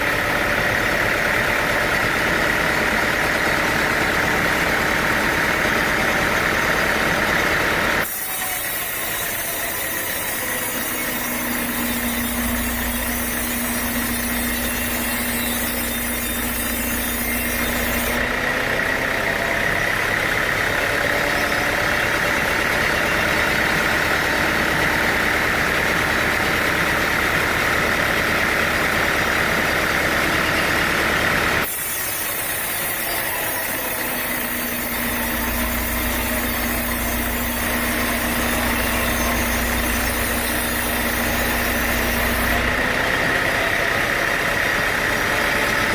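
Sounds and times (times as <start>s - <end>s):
sawmill machinery droning: 0.0s - 45.9s.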